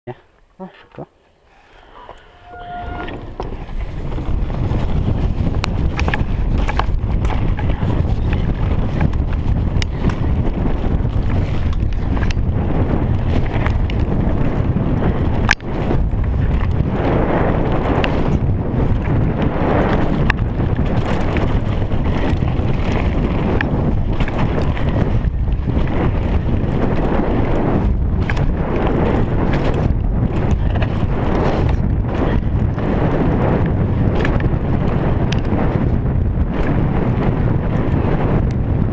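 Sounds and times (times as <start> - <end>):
bike tyres rolling on gravel: 1.5 - 38.9
bike clicks and rattles: 1.6 - 38.9
wind rushing on microphone: 1.6 - 38.9.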